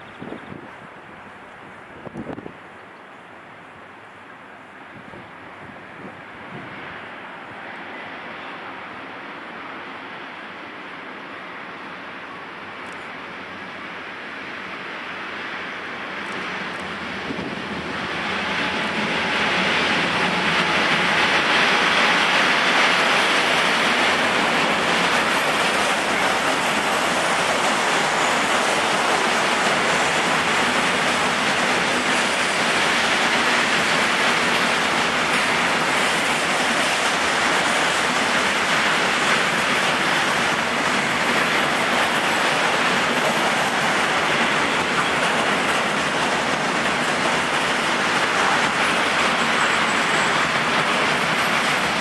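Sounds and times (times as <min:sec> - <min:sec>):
freight train wheels on rails: 0:00.0 - 0:52.0.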